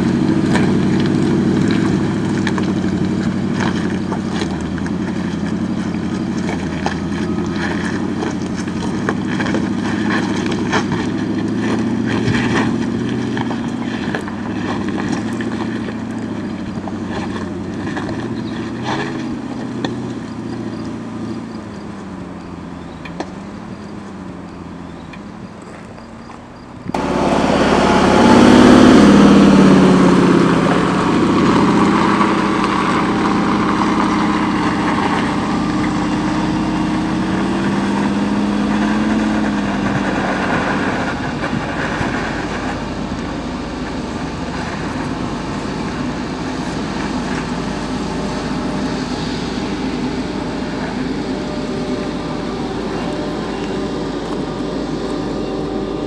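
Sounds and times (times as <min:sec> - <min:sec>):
suv engine climbing hill: 0:00.0 - 0:56.0.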